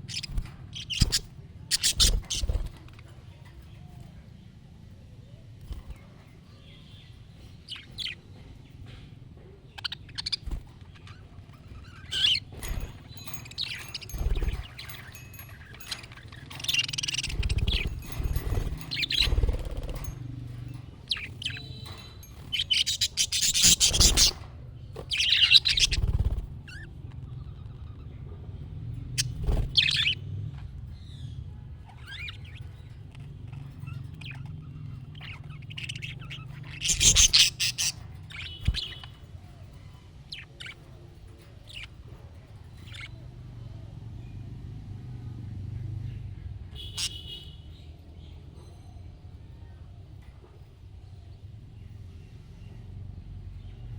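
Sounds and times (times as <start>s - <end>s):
budgerigars chirping and warbling: 0.0s - 4.1s, 5.6s - 43.6s, 45.8s - 53.9s.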